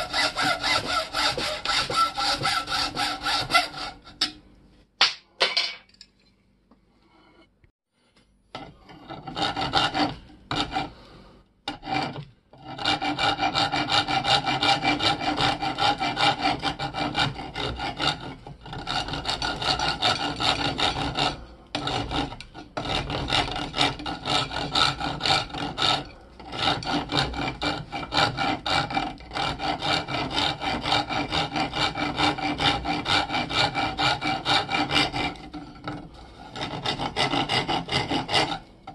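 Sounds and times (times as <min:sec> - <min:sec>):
file rasping on metal: 0:00.0 - 0:04.4, 0:08.6 - 0:11.1, 0:11.7 - 0:38.9.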